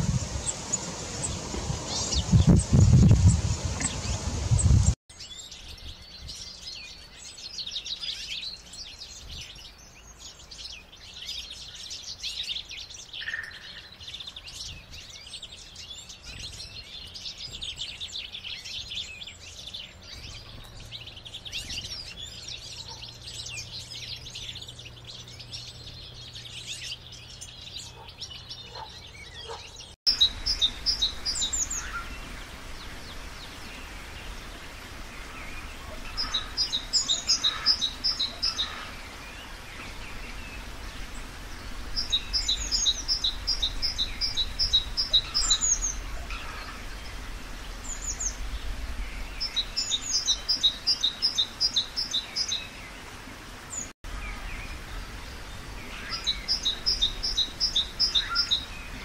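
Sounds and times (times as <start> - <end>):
blue tit song: 0.0 - 53.1, 53.7 - 59.0
chaffinch chirping and trilling: 0.1 - 53.0, 53.7 - 59.0.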